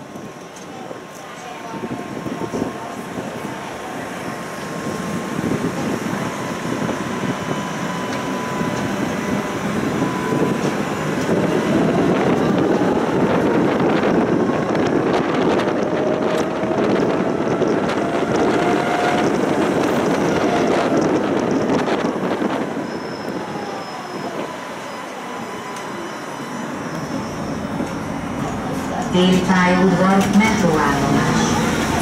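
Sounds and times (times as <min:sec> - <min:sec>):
tram wheels rumbling on rails: 0:00.0 - 0:32.0.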